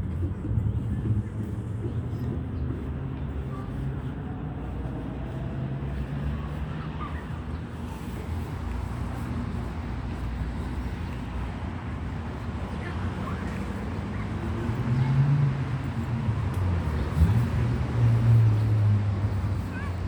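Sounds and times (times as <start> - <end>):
faint passing engines: 0.0 - 20.0
low outdoor rumble: 0.0 - 20.0.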